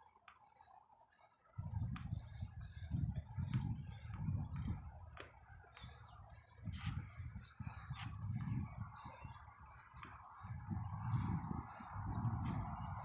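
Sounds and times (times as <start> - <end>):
birds chirping: 0.0 - 13.0
wind buffeting microphone: 1.5 - 13.0.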